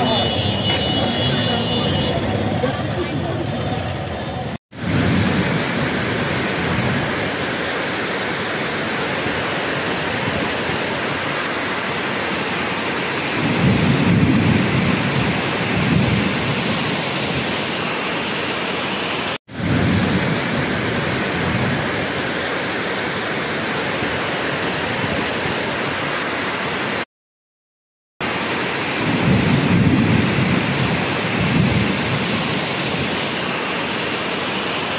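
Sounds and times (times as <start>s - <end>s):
heavy rain falling: 0.0s - 27.0s, 28.2s - 34.9s.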